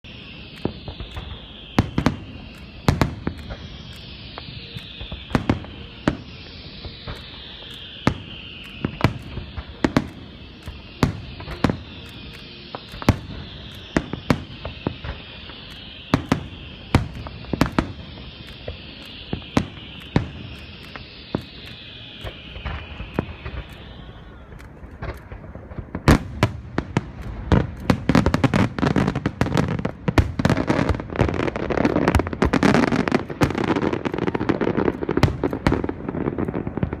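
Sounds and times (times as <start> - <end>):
fireworks booming and cracking: 0.0 - 37.0.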